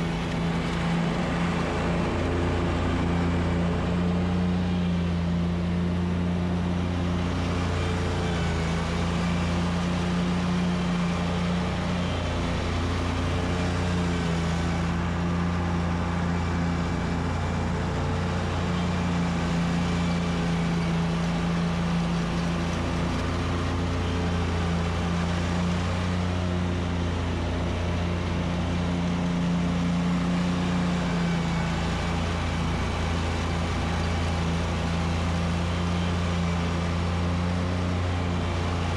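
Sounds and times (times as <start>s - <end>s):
lawn mower engine droning: 0.0s - 38.9s.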